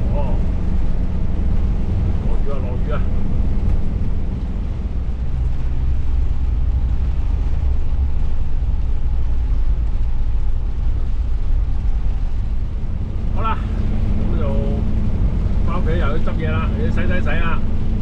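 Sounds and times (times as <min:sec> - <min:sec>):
loud low rumble: 0:00.0 - 0:18.0.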